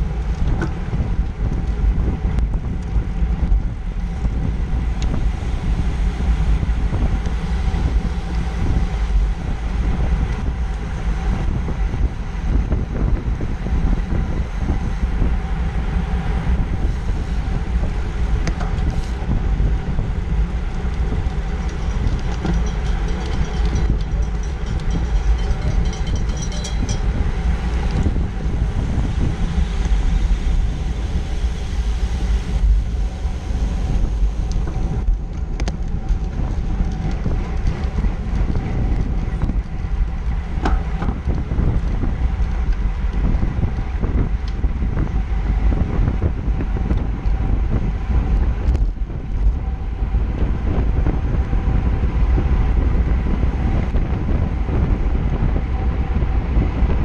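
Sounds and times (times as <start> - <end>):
tyre and road noise: 0.0 - 57.0
wind rumble on microphone: 0.0 - 57.0.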